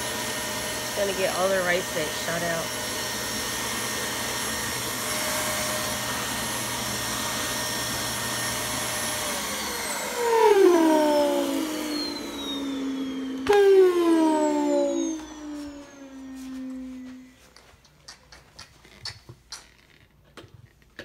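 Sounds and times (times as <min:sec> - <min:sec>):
vacuum cleaner motor whine: 0:00.0 - 0:17.6.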